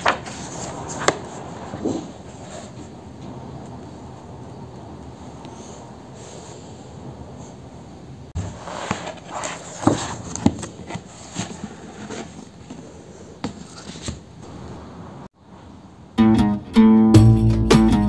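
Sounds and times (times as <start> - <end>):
low background noise: 0.0 - 16.2.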